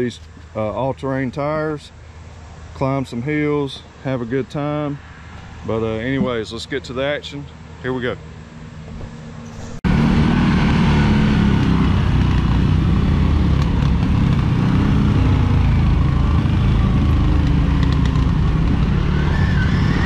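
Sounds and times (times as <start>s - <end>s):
atv engine rumbling: 2.8s - 20.0s.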